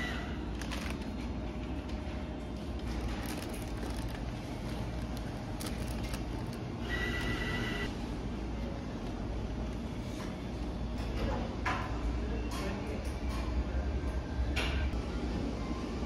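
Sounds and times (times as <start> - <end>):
low hum of shop background: 0.0 - 16.0.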